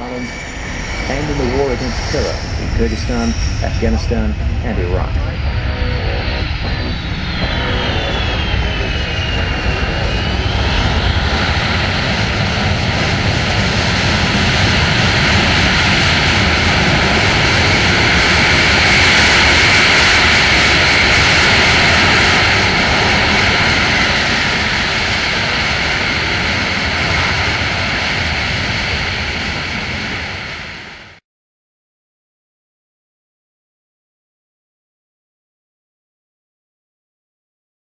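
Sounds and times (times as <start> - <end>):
high engine whine: 0.0 - 31.2
jet engines under reverse thrust: 0.0 - 31.2.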